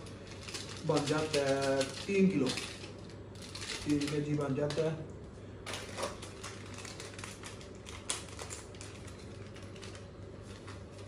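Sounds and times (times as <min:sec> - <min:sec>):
packaging crinkling and tearing: 0:00.0 - 0:04.9, 0:05.6 - 0:11.0
steady low hum: 0:00.0 - 0:11.0.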